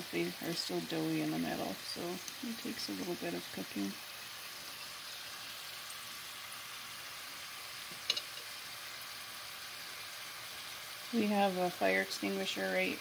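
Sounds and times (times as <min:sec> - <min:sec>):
fritters deep-frying in oil: 0:00.0 - 0:13.0.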